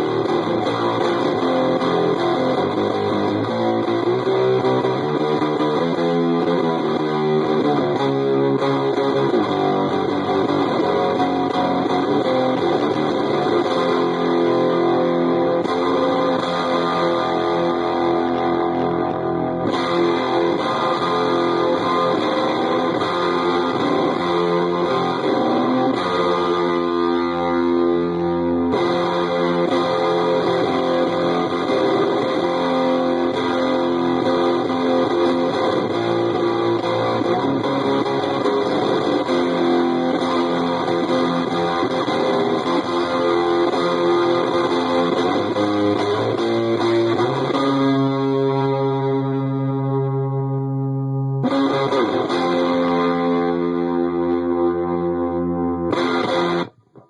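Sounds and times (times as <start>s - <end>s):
distorted electric guitar chords: 0.0s - 57.0s.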